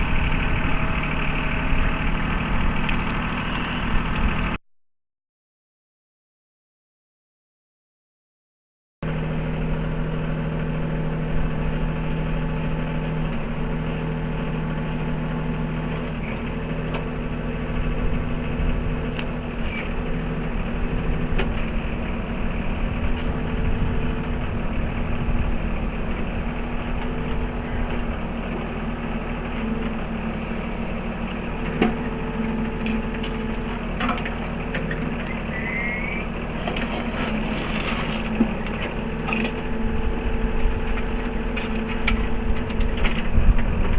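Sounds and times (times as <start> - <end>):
tractor diesel engine running: 0.0 - 4.6, 9.0 - 43.9.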